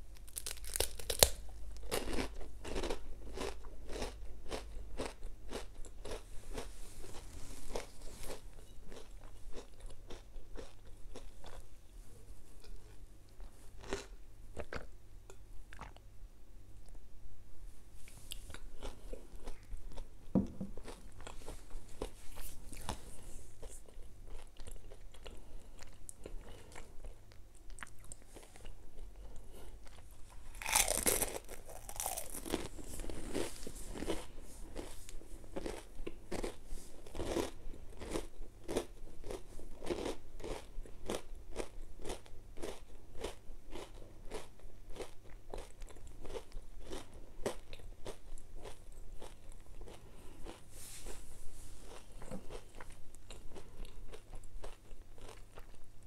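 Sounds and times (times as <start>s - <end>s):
crunchy chewing of wafer: 0.2s - 11.7s, 12.6s - 14.9s, 18.2s - 20.2s, 20.8s - 51.2s, 51.8s - 56.0s.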